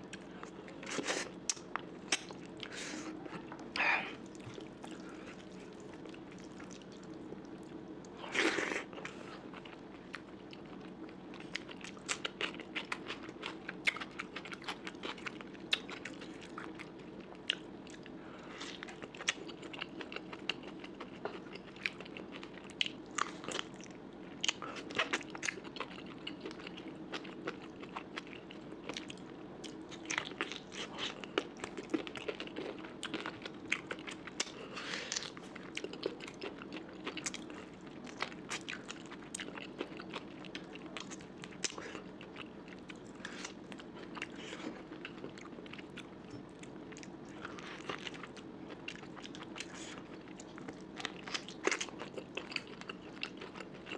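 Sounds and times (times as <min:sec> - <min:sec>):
steady low hum: 0:00.0 - 0:53.9
person chewing crunchy food: 0:00.1 - 0:53.9.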